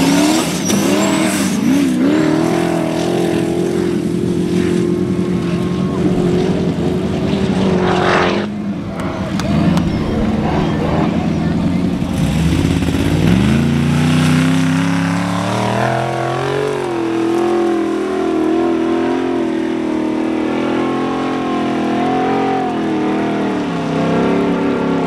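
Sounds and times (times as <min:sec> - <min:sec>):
buggy engine revving: 0:00.0 - 0:25.0.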